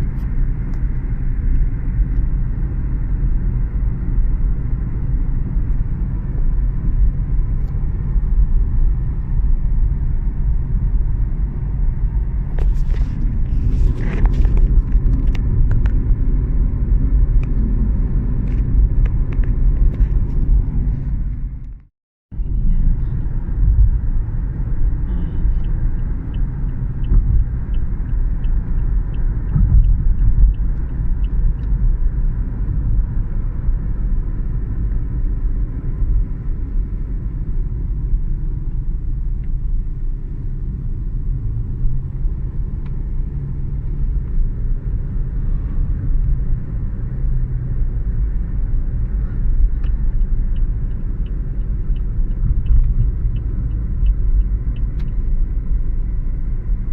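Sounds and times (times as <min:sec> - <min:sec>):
low rumble of city traffic: 0:00.0 - 0:56.9.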